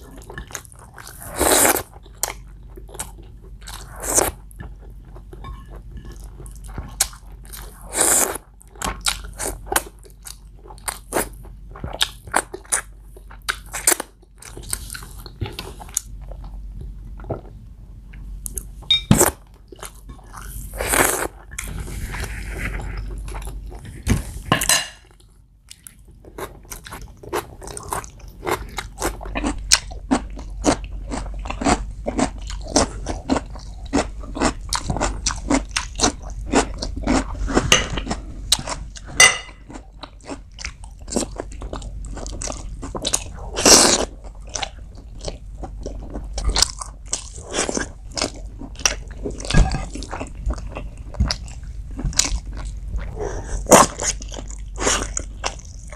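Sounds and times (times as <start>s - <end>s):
person chewing and smacking: 0.0s - 21.7s, 22.7s - 55.9s.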